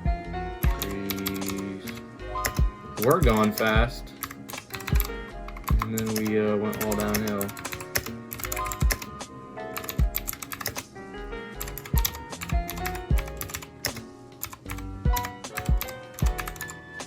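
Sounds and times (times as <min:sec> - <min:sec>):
background music with low beat: 0:00.0 - 0:17.0
mechanical keyboard typing: 0:00.6 - 0:09.2, 0:09.8 - 0:10.9, 0:11.6 - 0:16.8.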